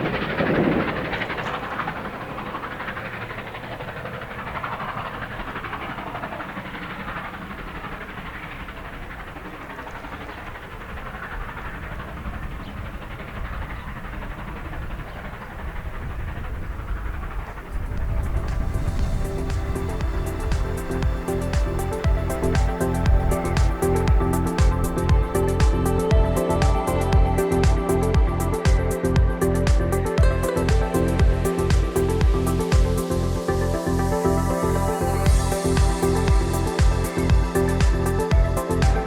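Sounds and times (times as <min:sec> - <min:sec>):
train rumbling on rails: 0:00.0 - 0:39.0.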